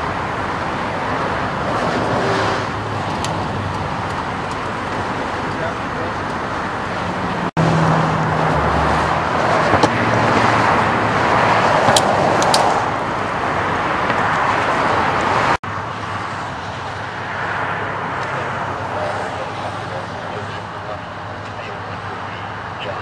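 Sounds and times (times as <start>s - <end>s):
freeway traffic rushing past: 0.0s - 23.0s.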